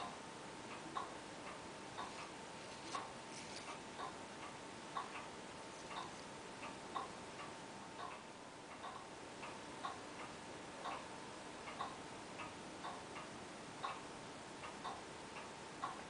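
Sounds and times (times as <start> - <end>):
mechanical clock ticking: 0.0 - 5.3, 5.9 - 16.0
faint steady hum: 0.0 - 16.0.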